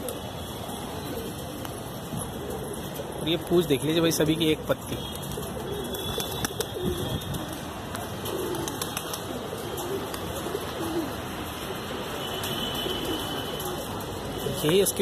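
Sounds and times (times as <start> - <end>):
pigeons cooing: 0.0 - 4.4, 5.0 - 14.7.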